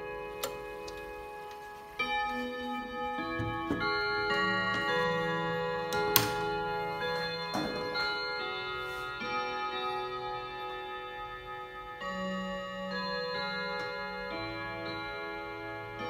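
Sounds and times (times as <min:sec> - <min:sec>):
clock gongs chiming melody: 0:00.0 - 0:16.0.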